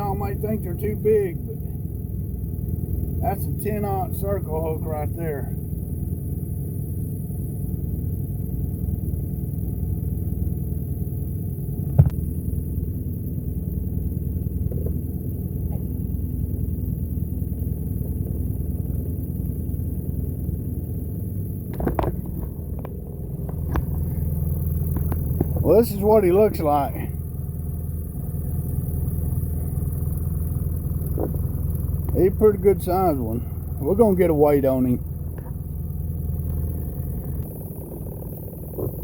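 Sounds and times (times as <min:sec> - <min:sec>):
boat motor rumbling: 0:00.0 - 0:39.0.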